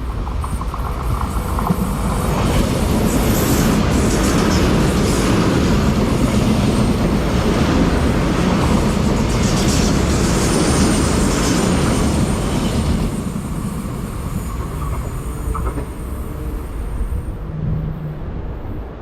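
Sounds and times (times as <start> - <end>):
passenger train passing on rails: 0.0 - 19.0.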